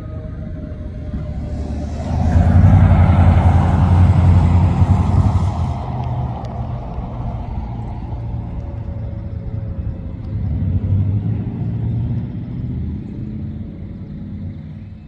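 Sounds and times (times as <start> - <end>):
faint siren: 0.0 - 12.7
vehicle passing rumble: 0.0 - 15.0.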